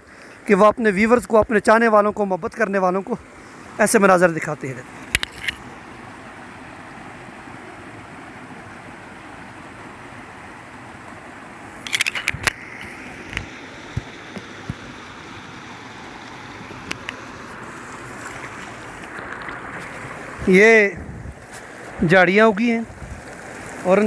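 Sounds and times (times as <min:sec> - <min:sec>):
stream rushing over boulders: 0:00.0 - 0:24.0.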